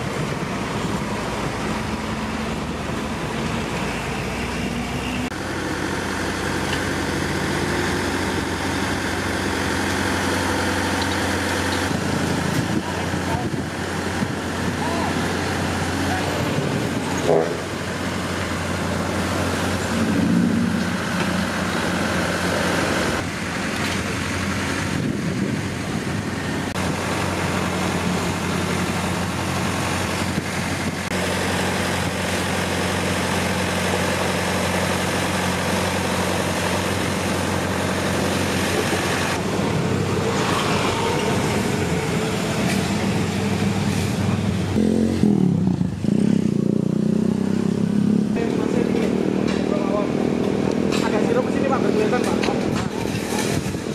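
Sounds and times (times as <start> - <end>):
paver engine humming: 0.0 - 53.9.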